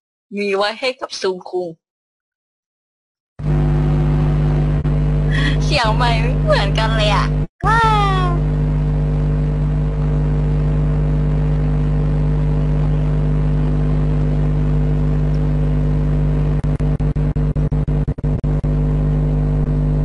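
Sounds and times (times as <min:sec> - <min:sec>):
microphone electrical hum: 0:03.4 - 0:20.0.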